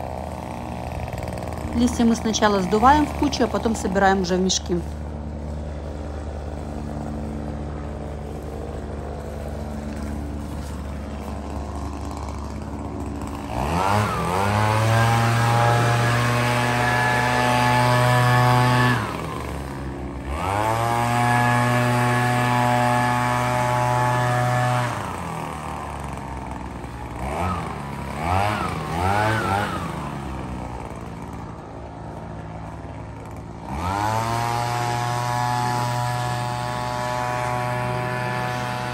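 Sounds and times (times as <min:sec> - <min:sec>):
leaf blower engine revving: 0:00.0 - 0:38.9.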